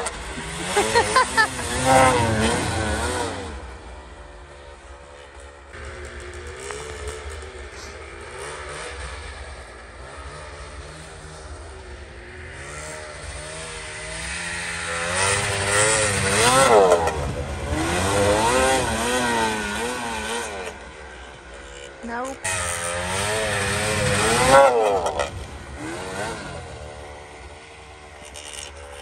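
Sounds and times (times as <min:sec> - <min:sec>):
snowmobile engine: 0:00.0 - 0:29.0.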